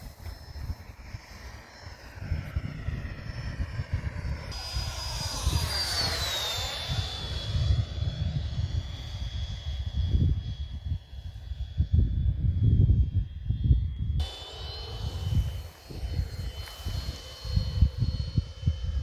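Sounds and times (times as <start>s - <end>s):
model jet fan whine flying past: 0.0s - 19.0s
wind rumbling on microphone: 0.0s - 19.0s.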